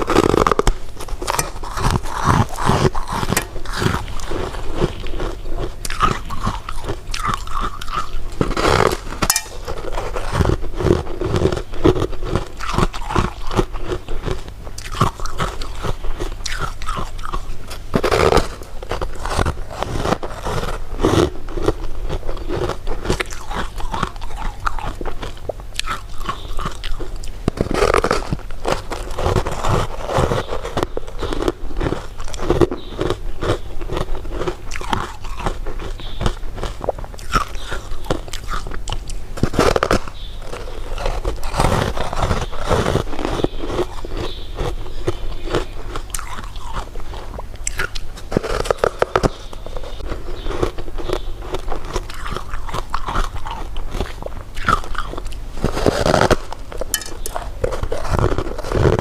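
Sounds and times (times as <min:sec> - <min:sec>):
crunchy clicks: 0:00.0 - 0:59.0
faint low hum: 0:00.0 - 0:59.0
person chewing food: 0:00.0 - 0:59.0.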